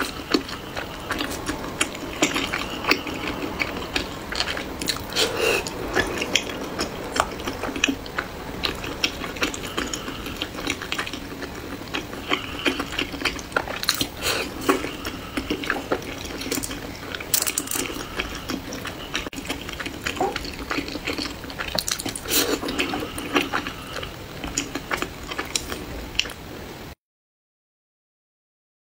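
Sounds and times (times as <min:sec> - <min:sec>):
wet chewing: 0:00.0 - 0:26.4.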